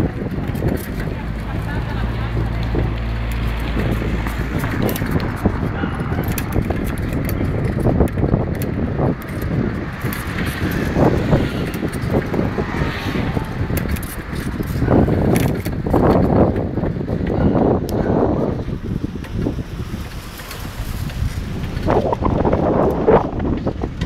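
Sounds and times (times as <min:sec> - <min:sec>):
bicycle rattling and clicking: 0:00.0 - 0:24.0
wind buffeting microphone: 0:00.0 - 0:24.0.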